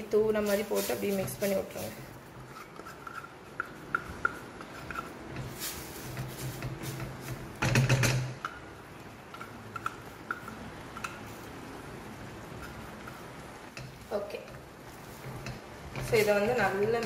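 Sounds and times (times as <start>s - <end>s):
metal spoon stirring in a steel pan: 0.0s - 11.7s, 12.3s - 17.0s
boiling water: 0.0s - 17.0s.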